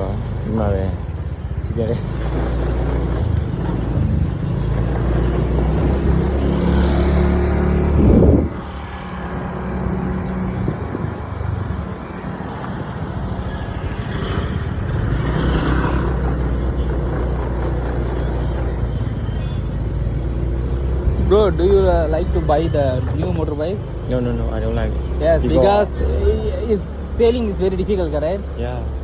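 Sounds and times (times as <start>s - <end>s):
motorbike engine rumbling: 0.0s - 29.0s.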